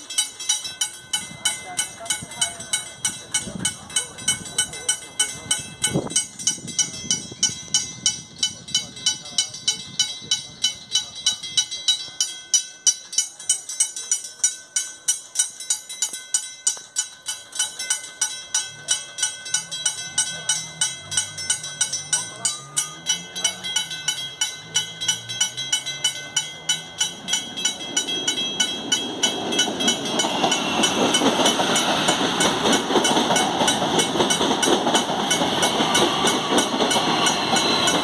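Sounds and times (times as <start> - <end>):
electric train rumble: 0.0 - 38.0.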